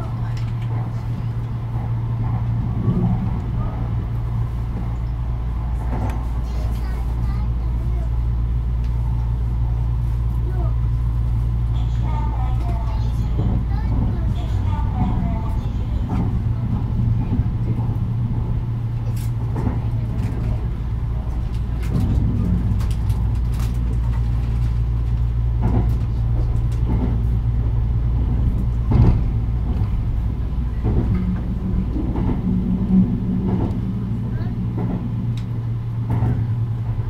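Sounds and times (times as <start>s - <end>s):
track clacks: 0.0s - 9.4s, 11.3s - 37.0s
train running rumble and hum: 0.0s - 37.0s.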